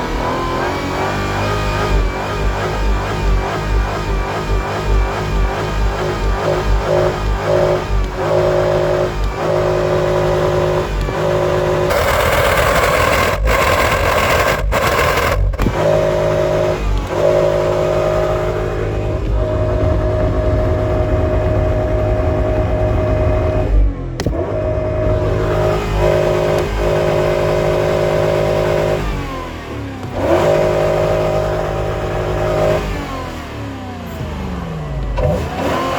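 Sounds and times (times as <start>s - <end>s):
car engine revving hard: 0.0s - 35.9s.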